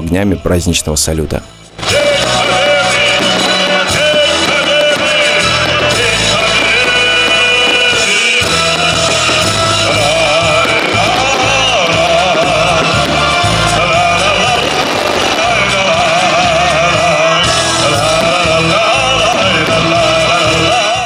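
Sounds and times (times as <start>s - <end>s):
instrumental accompaniment: 1.4s - 21.0s
steady bass line: 1.5s - 21.0s
man singing with vibrato: 1.7s - 21.0s.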